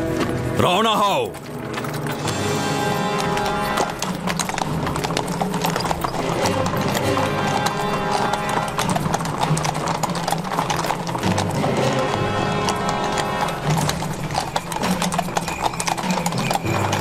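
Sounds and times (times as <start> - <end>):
background music: 0.0 - 17.0
hooves clip-clopping on stone: 0.0 - 17.0.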